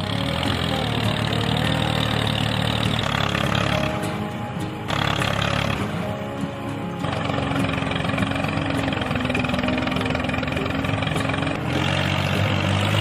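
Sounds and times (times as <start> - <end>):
engine idling with fast putter: 0.0 - 13.0.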